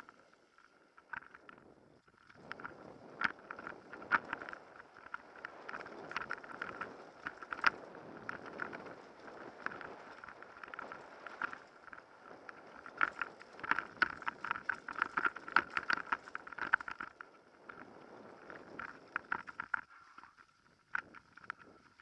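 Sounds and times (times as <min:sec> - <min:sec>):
tyre and wind noise: 0:00.0 - 0:22.0
bike rattling over bumps: 0:02.4 - 0:22.0.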